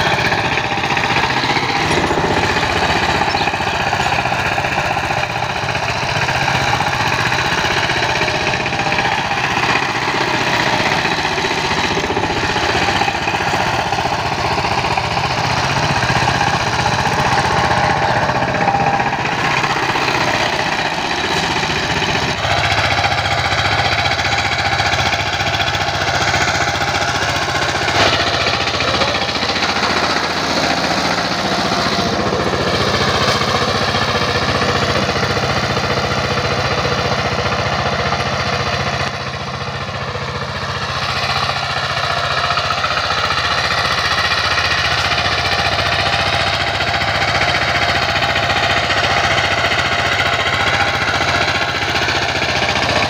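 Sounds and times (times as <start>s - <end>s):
diesel engine running under load: 0.0s - 53.0s
rotary blades working soil: 0.0s - 53.0s.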